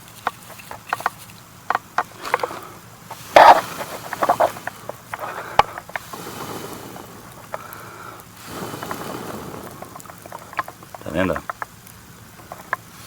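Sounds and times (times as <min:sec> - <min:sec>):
sharp cracks of campfire: 0:00.0 - 0:13.0
soft steady fire rush: 0:00.0 - 0:13.0
wood scraping: 0:00.0 - 0:13.0.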